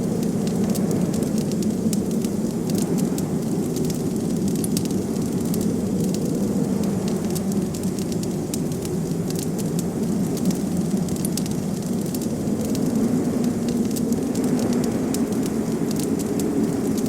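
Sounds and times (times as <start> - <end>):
blizzard wind rushing: 0.0 - 17.0
wood fire crackling: 0.0 - 17.0.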